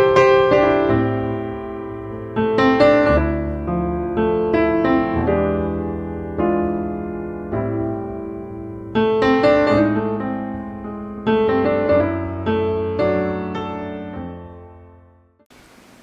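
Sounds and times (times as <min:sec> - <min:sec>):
piano music: 0:00.0 - 0:15.5.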